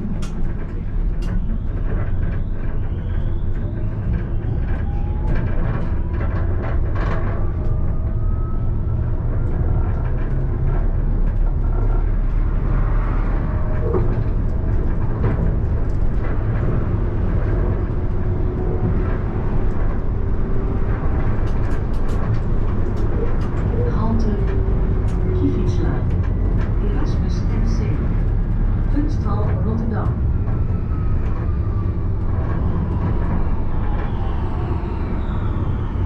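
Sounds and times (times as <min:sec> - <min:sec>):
tram wheels rumbling on rail: 0:00.0 - 0:36.0.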